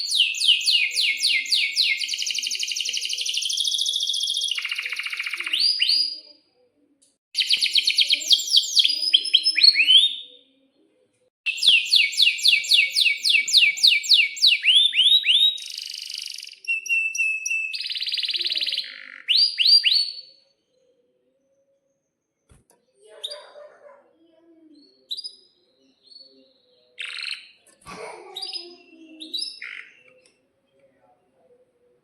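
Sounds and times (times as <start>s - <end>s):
canary singing trills: 0.0s - 6.5s, 7.4s - 10.8s, 11.5s - 21.0s, 23.0s - 27.7s, 28.4s - 30.4s
faint bird chirps: 0.0s - 32.0s.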